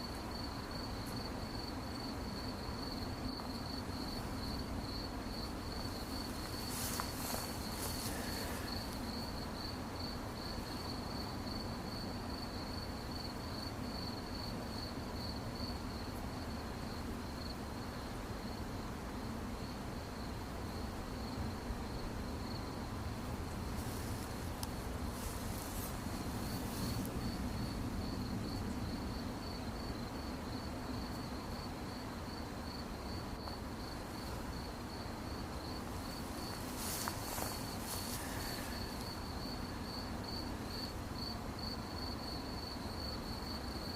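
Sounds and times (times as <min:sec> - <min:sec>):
soft hiss: 0:00.0 - 0:13.9, 0:20.5 - 0:42.0
low background hum: 0:00.0 - 0:43.5
crickets chirping: 0:00.0 - 0:43.9.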